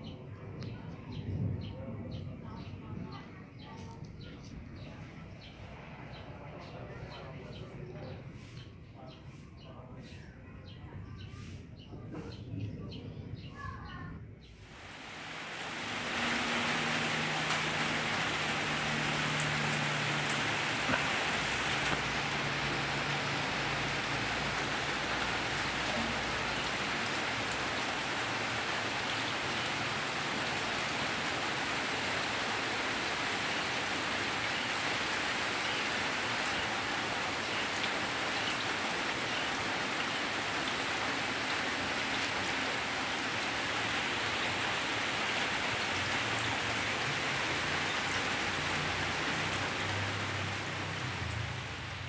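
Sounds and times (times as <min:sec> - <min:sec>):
steady rain falling: 0:00.0 - 0:09.2, 0:14.4 - 0:52.0.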